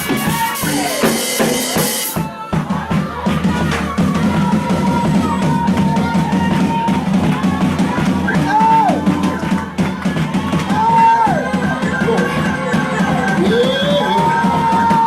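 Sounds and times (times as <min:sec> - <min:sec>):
drum kit with cymbal wash: 0:00.0 - 0:15.0.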